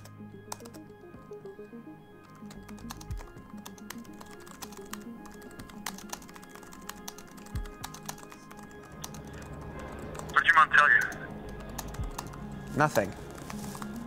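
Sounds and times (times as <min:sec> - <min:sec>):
background music with sustained notes: 0:00.0 - 0:14.0
laptop keyboard typing: 0:00.0 - 0:14.0.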